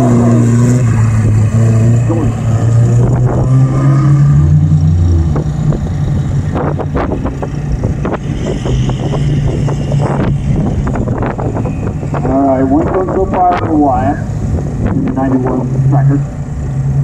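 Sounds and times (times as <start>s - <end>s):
car engine running hard: 0.0s - 17.0s.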